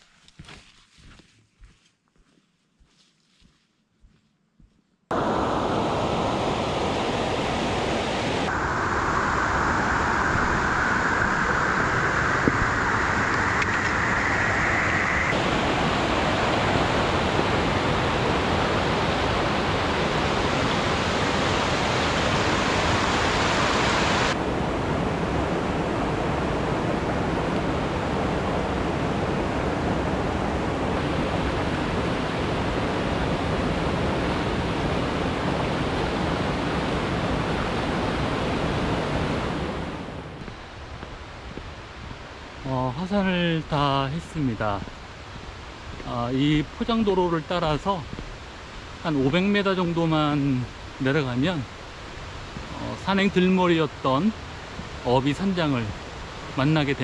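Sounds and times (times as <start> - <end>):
mountain stream rushing: 5.1 - 57.0.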